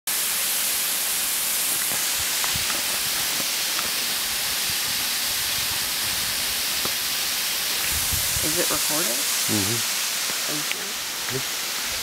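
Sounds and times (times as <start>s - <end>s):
waterfall hissing: 0.1s - 12.0s.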